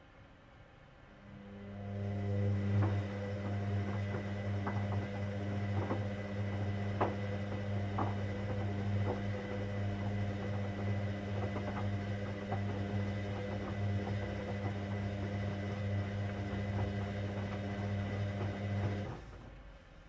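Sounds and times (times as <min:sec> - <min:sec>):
washing machine running: 0:01.2 - 0:19.9.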